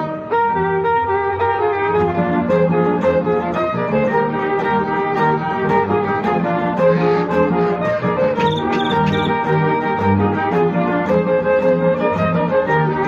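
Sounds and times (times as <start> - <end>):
string ensemble playing: 1.7 - 13.0.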